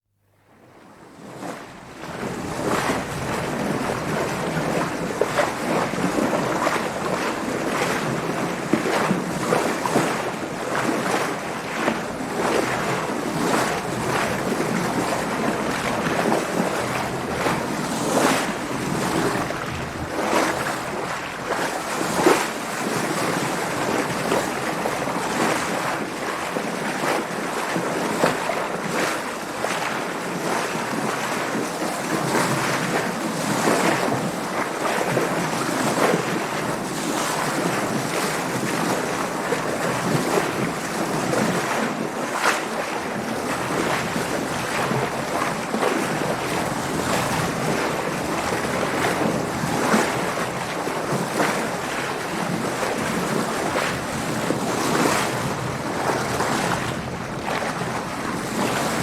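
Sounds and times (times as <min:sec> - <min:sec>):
water splashing against a boat: 0:00.4 - 0:59.0.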